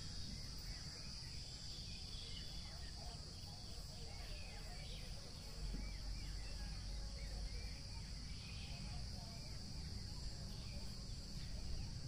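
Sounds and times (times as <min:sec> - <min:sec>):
faint bird chirps: 0:00.0 - 0:12.0
insects chirring: 0:00.0 - 0:12.0.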